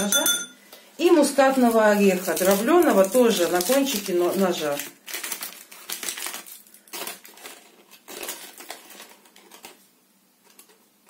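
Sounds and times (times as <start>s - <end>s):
paper packet crinkling: 1.2s - 11.0s.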